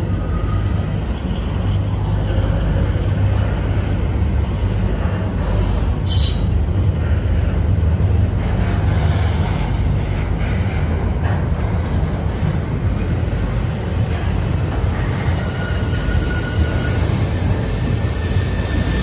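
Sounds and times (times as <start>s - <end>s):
wheel screeching on rail: 0.0s - 7.6s, 8.4s - 19.0s
train rumbling past: 0.0s - 19.0s.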